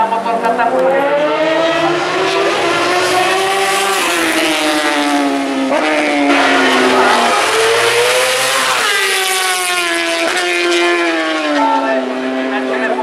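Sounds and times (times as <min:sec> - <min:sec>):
motorcycle accelerating past: 0:01.0 - 0:11.6.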